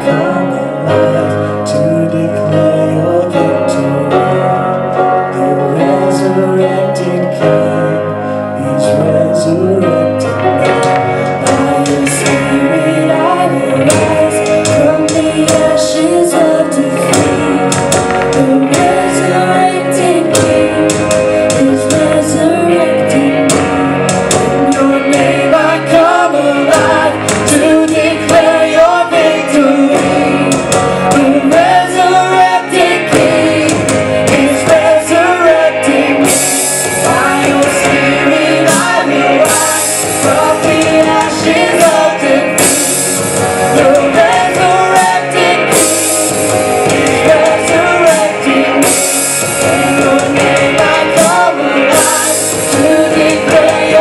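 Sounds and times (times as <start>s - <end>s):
man and woman singing together: 0.0s - 4.7s, 5.3s - 54.0s
bass guitar: 0.0s - 54.0s
electric guitar: 0.0s - 54.0s
keyboard: 0.0s - 54.0s
drums and cymbals: 10.6s - 54.0s.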